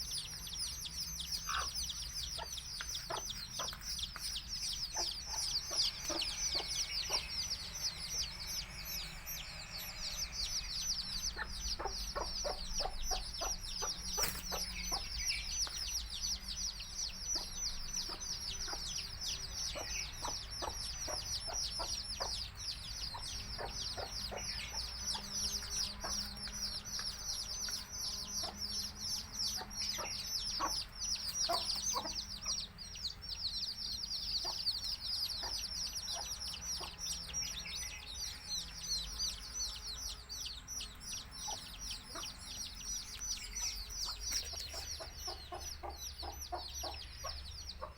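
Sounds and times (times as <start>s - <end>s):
hen clucking: 0.0s - 15.7s, 16.6s - 32.8s, 34.3s - 37.3s, 40.8s - 47.9s
baby chicks peeping: 0.0s - 47.9s.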